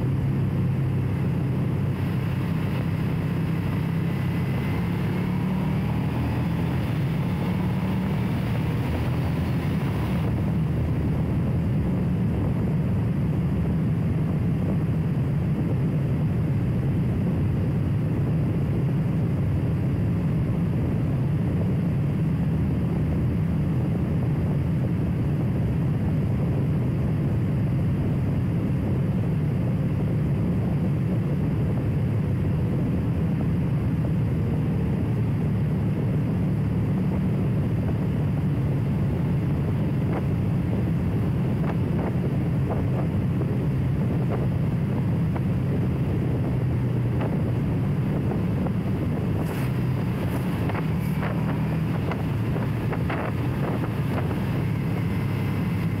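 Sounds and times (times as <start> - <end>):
motorcycle running: 0.0 - 56.0
wind on microphone: 0.0 - 56.0.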